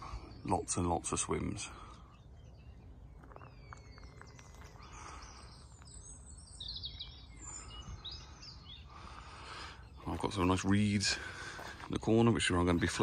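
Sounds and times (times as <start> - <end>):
birds chirping and singing: 0.0 - 13.0.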